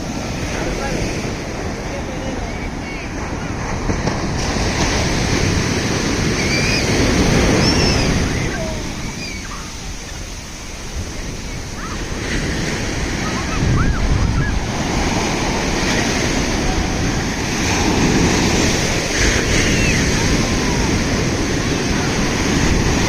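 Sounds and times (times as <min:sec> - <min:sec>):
sea waves breaking: 0:00.0 - 0:23.0
wind buffeting microphone: 0:00.0 - 0:23.0.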